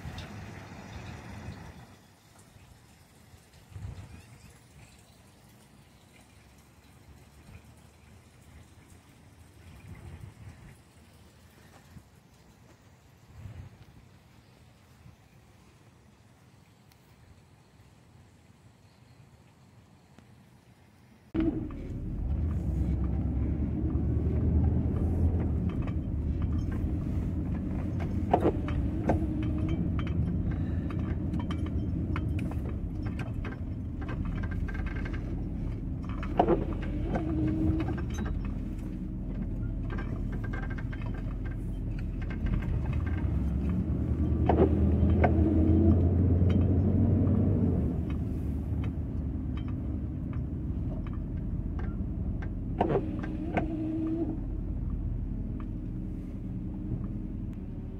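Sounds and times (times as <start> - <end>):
van engine and road rumble: 0.0 - 18.6, 20.0 - 57.9.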